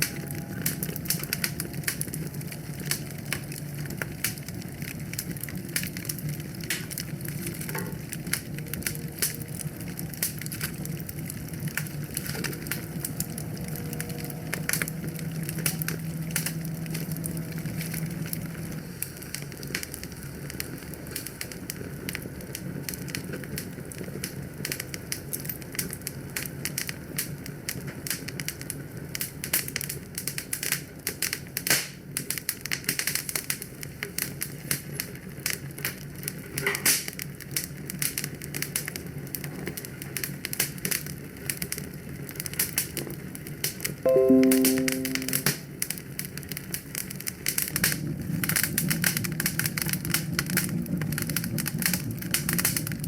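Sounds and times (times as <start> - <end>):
wood fire crackling: 0.0 - 45.2, 46.4 - 53.0.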